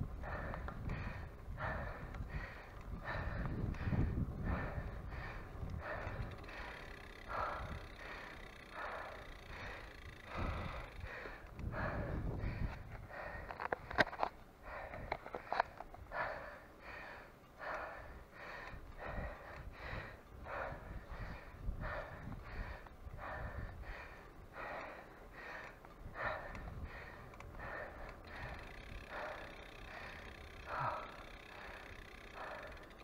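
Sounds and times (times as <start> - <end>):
cyclist breathing hard: 0.0 - 33.0.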